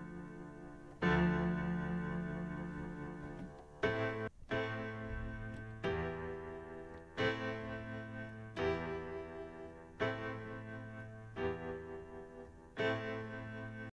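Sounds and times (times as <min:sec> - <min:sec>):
slow keyboard chords: 0:00.0 - 0:13.9.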